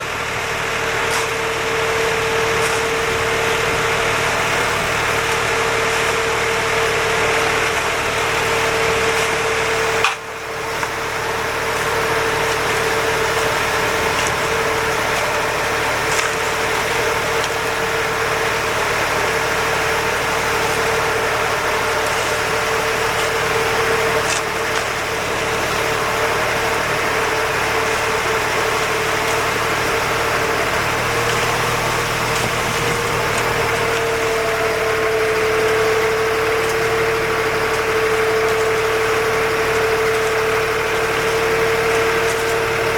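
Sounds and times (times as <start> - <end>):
constant whine: 0.0 - 42.9
mixer truck engine running: 0.0 - 42.9.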